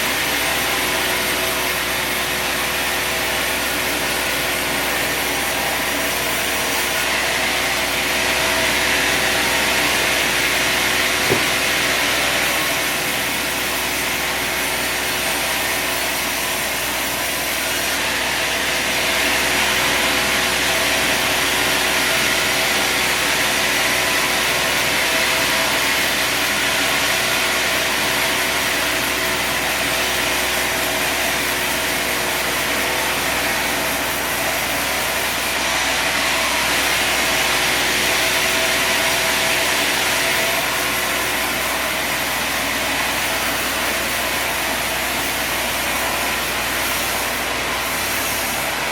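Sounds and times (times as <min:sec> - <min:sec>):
saw blade cutting log: 0:00.0 - 0:48.9.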